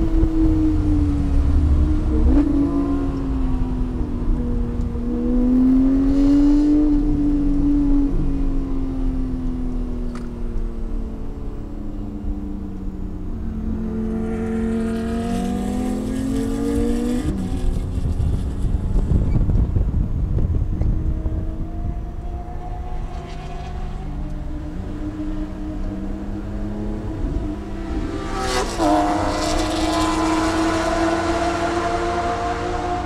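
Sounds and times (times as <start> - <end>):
road and tyre rumble: 0.0 - 33.0.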